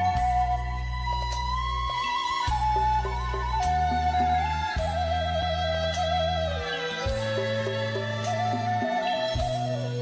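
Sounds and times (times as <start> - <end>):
bamboo flute melody: 0.0 - 10.0.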